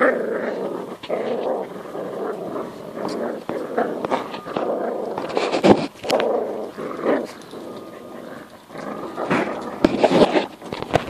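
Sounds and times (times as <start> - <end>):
puppies growling in play: 0.0 - 10.9.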